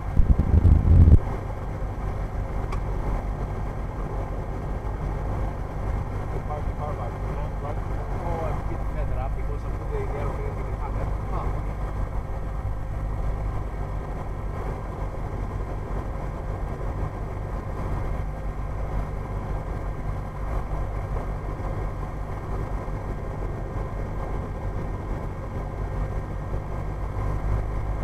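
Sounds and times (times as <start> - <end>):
propeller plane engine droning: 0.0 - 28.0.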